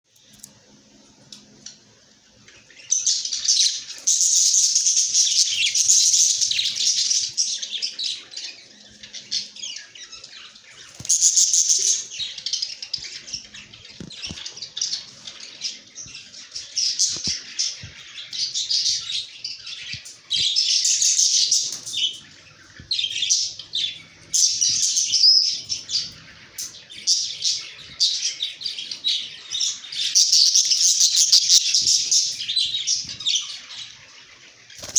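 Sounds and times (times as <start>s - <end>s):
budgerigars chattering and chirping: 2.6s - 34.9s.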